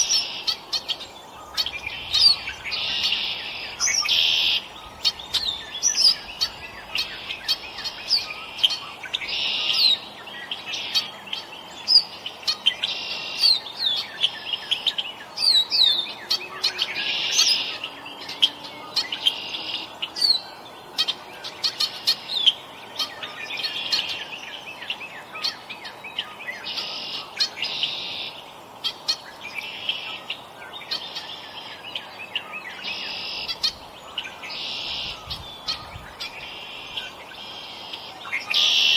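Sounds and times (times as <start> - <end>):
songbird buzzy call: 0.0 - 31.9, 32.5 - 38.9.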